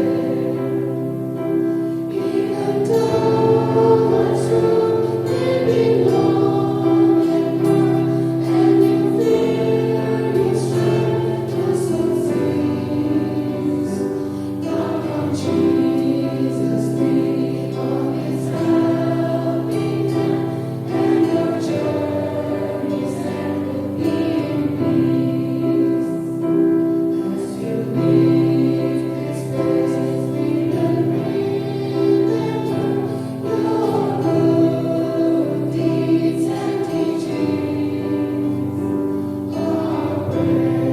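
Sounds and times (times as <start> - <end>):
choir singing slow song: 0.0 - 40.9.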